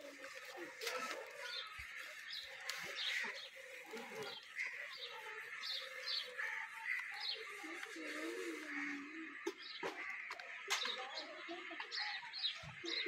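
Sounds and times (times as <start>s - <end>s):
birds chirping: 0.0s - 13.0s
lower steady bird call: 0.0s - 13.0s.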